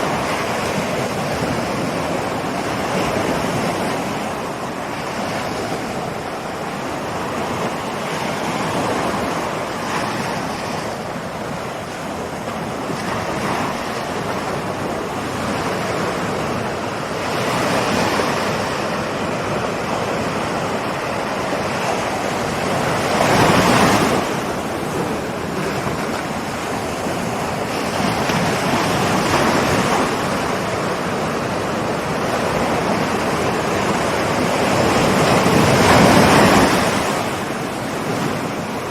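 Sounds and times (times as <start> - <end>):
ocean waves washing on shore: 0.0 - 38.9
wave breaking: 0.0 - 38.9.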